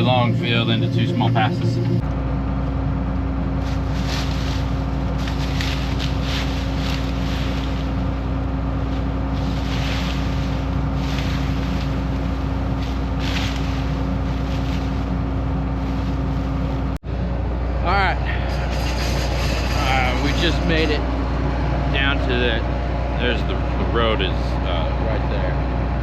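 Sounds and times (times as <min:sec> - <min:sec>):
combine harvester running: 0:00.0 - 0:26.0.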